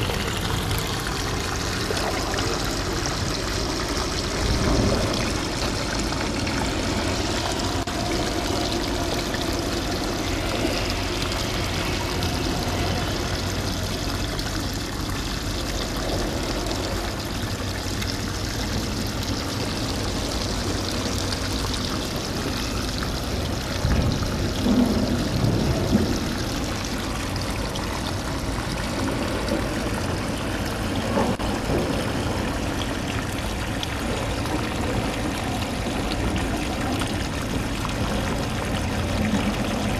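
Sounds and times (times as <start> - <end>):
seawater lapping among rocks: 0.0 - 39.9.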